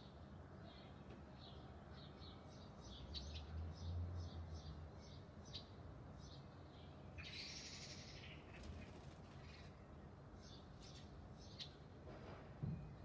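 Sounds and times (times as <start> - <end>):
songbirds calling: 0.0 - 12.0.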